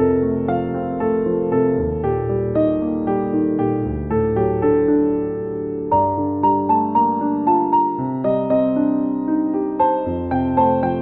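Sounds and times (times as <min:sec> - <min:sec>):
soft piano-like keyboard melody: 0:00.0 - 0:11.0.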